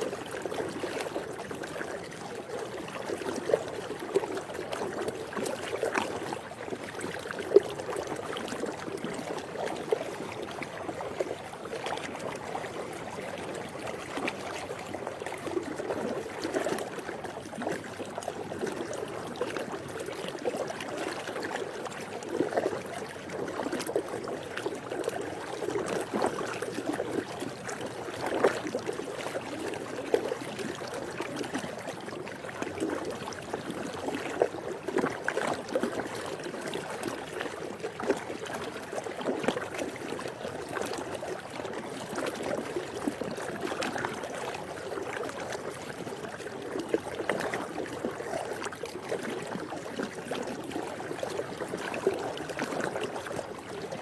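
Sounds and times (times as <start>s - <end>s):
pool water sloshing and splashing: 0.0s - 54.0s.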